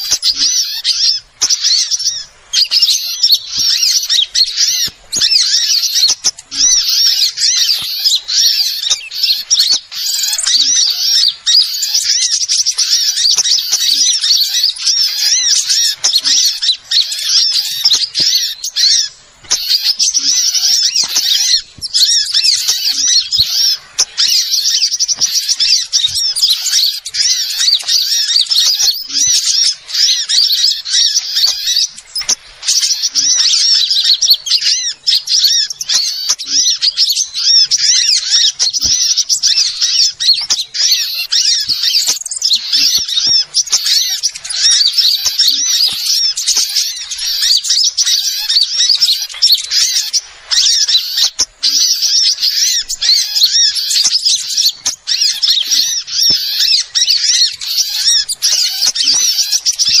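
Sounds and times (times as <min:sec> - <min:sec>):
small birds twittering: 0:00.0 - 1:00.0.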